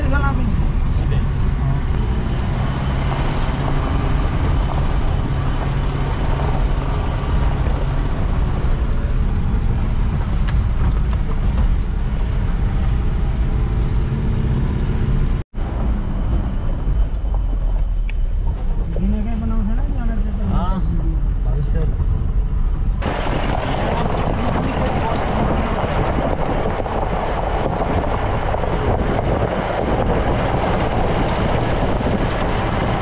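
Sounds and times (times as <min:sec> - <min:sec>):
car engine under load: 0:00.0 - 0:33.0
driving on rough dirt road: 0:00.0 - 0:33.0.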